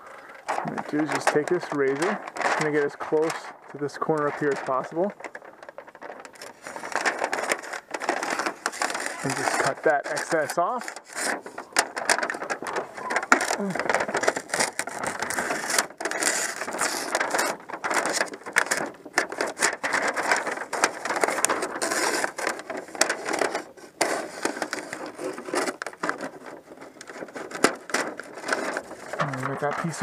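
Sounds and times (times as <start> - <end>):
housewrap crinkling and rustling: 0.0 - 30.0.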